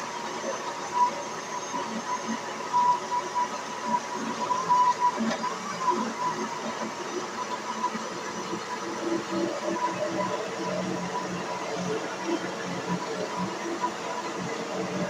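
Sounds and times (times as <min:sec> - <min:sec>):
kitchen blender running: 0:00.0 - 0:15.0.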